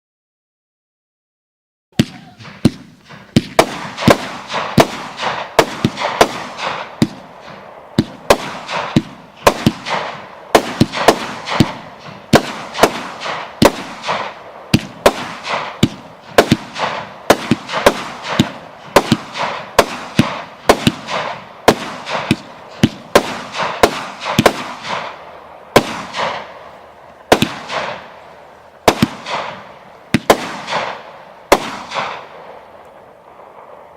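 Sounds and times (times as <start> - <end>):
firework cake bangs: 2.0 - 26.6, 27.3 - 28.2, 28.8 - 32.3
firework crackling: 2.0 - 33.9.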